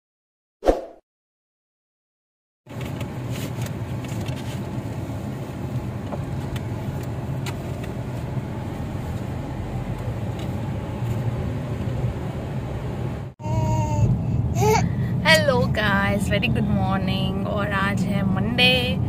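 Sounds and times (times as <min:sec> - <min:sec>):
car engine hum: 0:02.7 - 0:19.0
road noise: 0:02.7 - 0:19.0.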